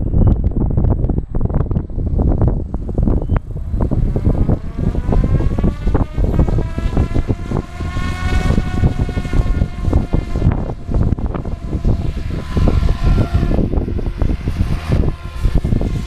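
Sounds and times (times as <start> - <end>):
wind buffeting on microphone: 0.0 - 16.0
rc helicopter rotor whine: 0.1 - 16.0.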